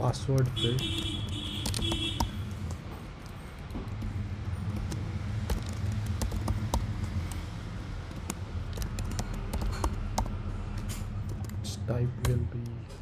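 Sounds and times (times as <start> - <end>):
computer keyboard typing: 0.0 - 13.0.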